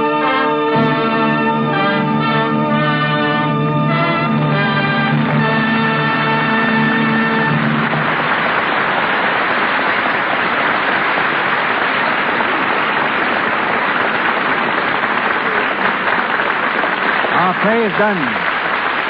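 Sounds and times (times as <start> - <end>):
audience applauding: 0.3 - 19.0.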